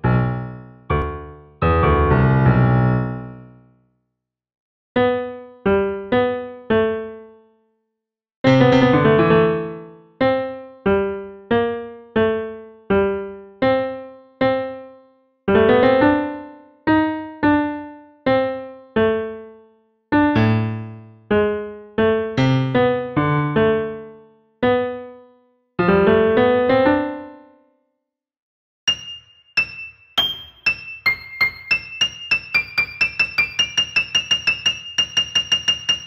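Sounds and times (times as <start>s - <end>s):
solo piano music: 0.0s - 3.8s, 5.0s - 7.7s, 8.4s - 27.8s, 28.9s - 36.0s.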